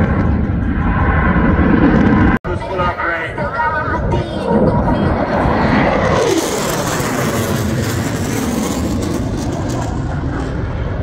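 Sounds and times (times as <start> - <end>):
jet aircraft roar: 0.0 - 11.0.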